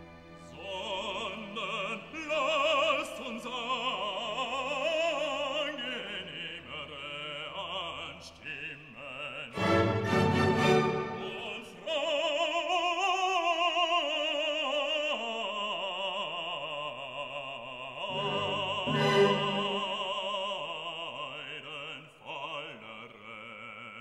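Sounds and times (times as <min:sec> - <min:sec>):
operatic singing with orchestra: 0:00.0 - 0:24.0.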